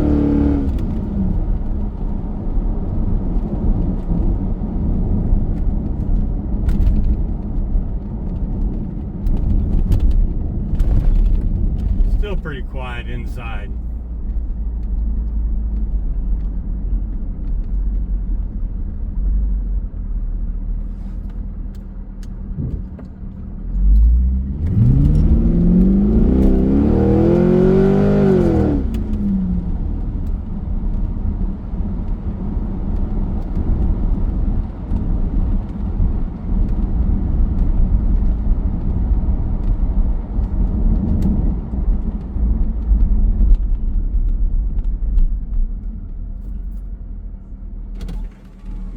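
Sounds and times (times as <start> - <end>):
car engine and exhaust from cabin: 0.0 - 48.9.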